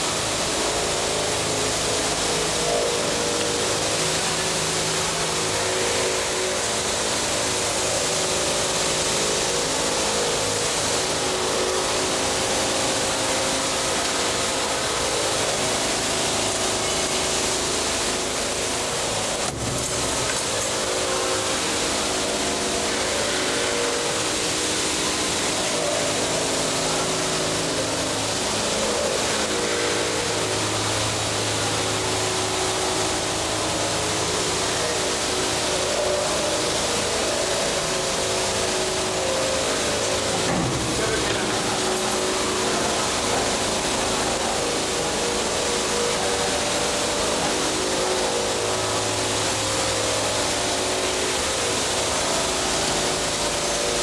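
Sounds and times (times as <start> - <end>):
forming machine humming: 0.0 - 54.0.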